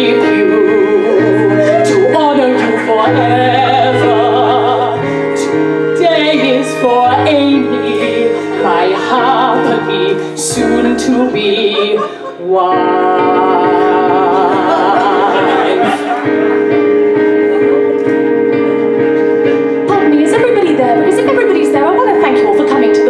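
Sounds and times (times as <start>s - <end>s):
woman singing operatically: 0.0s - 16.2s, 19.9s - 23.0s
piano and instrumental ensemble: 0.0s - 23.0s.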